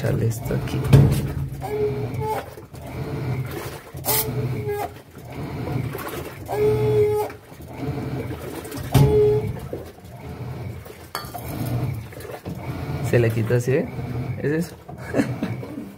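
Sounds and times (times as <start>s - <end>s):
washing machine squealing moan: 0.0s - 15.9s.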